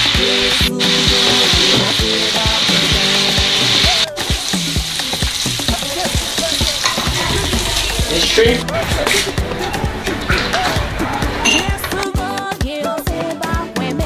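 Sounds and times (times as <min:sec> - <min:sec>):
food sizzling in a pan: 0:00.0 - 0:12.0
background music with a beat: 0:00.0 - 0:14.0.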